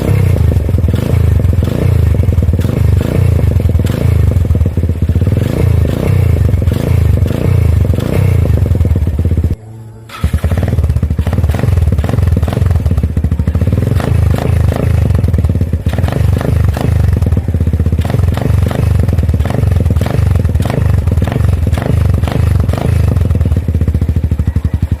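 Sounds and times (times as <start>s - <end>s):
loud motorcycle engine: 0.0s - 25.0s.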